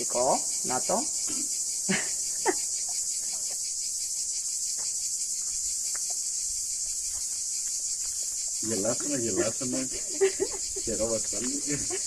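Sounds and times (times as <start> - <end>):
cicadas chorus: 0.0 - 12.0.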